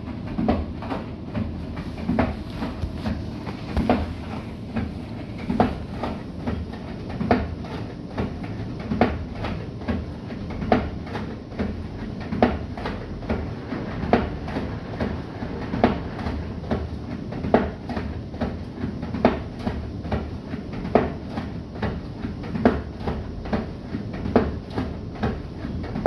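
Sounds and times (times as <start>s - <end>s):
washing machine drum rumbling: 0.0s - 26.0s.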